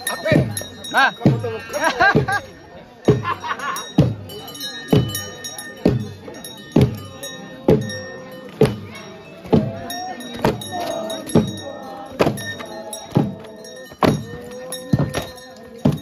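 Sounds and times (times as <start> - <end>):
drum beating a slow beat: 0.0 - 16.0
light metallic jingling: 0.0 - 16.0
voices chanting: 0.0 - 16.0.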